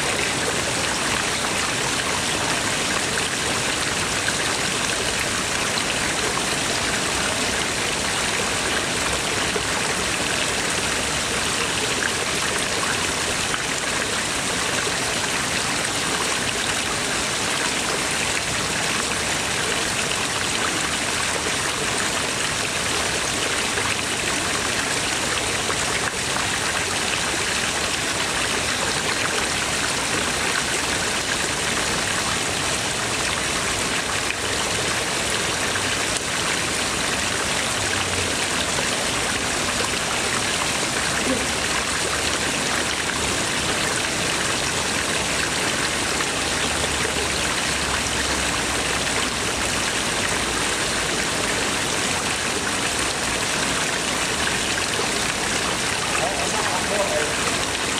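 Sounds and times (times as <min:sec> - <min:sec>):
water splashing into a pond: 0:00.1 - 0:57.9.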